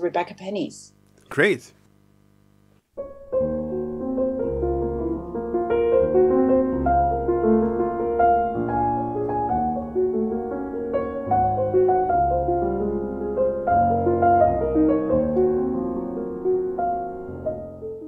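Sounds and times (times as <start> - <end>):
solo piano music: 3.0 - 18.0.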